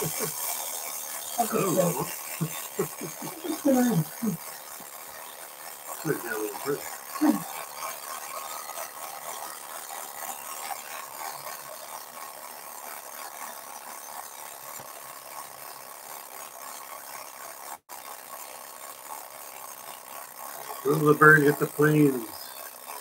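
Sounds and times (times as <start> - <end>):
toy mechanism whirring rattle: 0.0 - 23.0.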